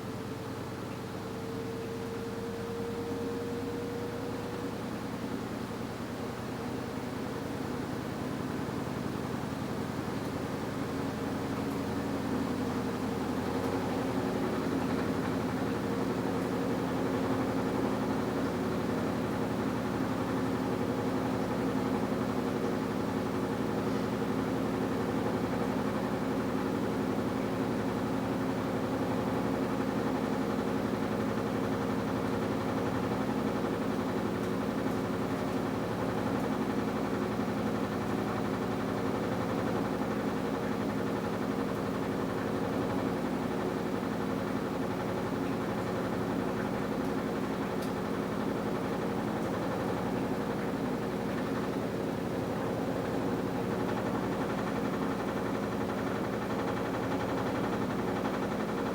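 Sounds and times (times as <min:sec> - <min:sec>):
washing machine motor hum: 0:00.1 - 0:58.9.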